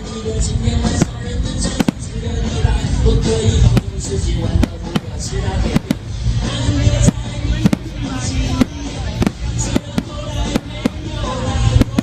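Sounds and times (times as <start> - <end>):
fireworks bangs: 0.0 - 12.0
loud music with heavy bass: 0.0 - 12.0.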